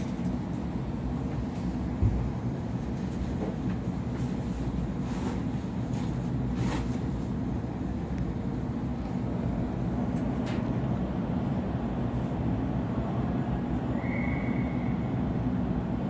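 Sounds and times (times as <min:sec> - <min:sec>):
train carriage equipment hum: 0:00.0 - 0:16.0.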